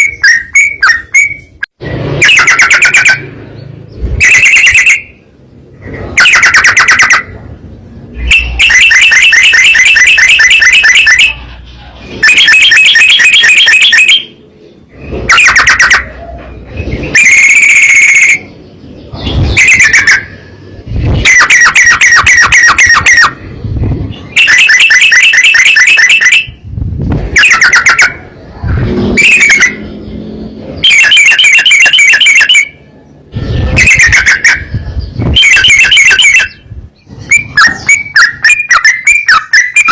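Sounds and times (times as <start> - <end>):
bird trilling song: 0.0 - 39.9.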